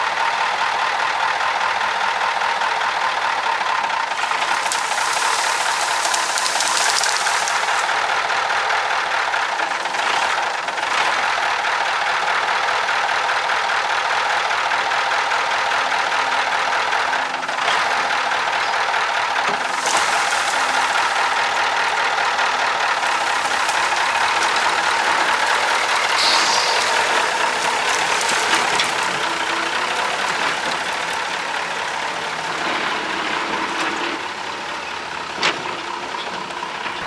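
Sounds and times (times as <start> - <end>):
diesel truck engine running: 0.0 - 37.0.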